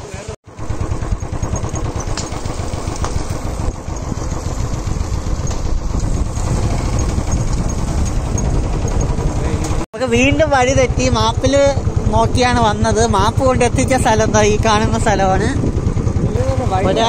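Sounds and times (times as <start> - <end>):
motorcycle engine running: 0.1 - 17.0.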